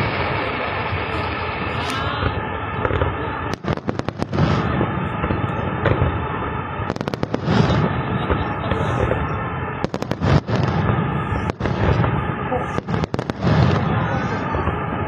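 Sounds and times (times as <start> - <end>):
fireworks booming and crackling: 0.0 - 15.0
rapid-fire firework bangs: 0.0 - 15.0.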